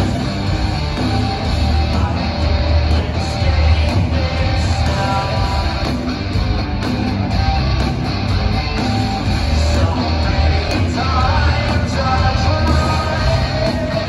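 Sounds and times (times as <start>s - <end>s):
hard rock band playing live: 0.0s - 14.0s.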